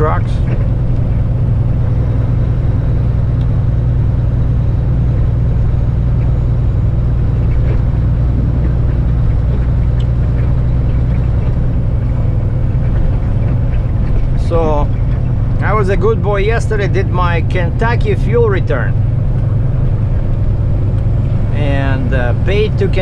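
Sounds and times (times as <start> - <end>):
diesel engine drone: 0.0 - 23.0
road noise: 0.0 - 23.0.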